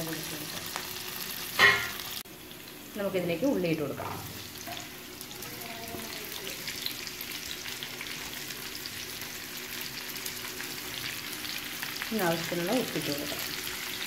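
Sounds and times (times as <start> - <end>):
hot oil sizzling in a frying pan: 0.0 - 14.0.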